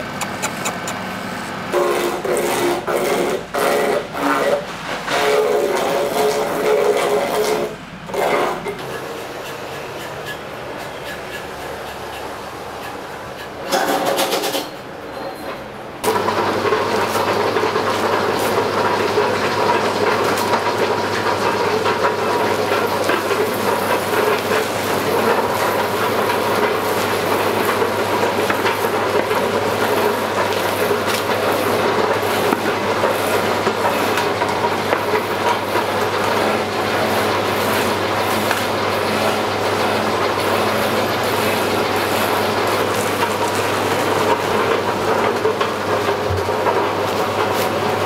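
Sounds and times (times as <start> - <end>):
machine running: 0.0 - 14.6, 16.0 - 48.0.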